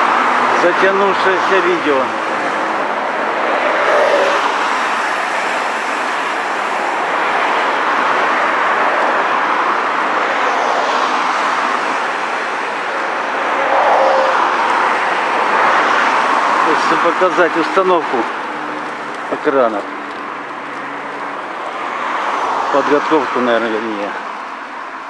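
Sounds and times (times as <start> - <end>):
highway traffic rushing: 0.0 - 25.0.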